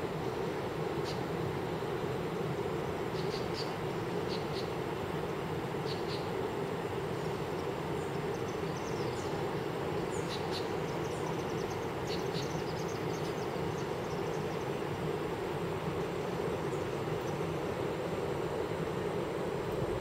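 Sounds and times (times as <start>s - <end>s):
distant waterfall roar: 0.0s - 20.0s.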